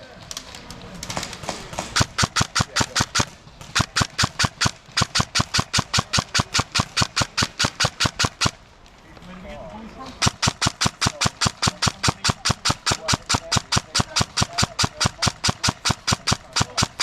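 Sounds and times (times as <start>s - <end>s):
airsoft gun firing: 1.0s - 8.6s, 10.2s - 17.0s.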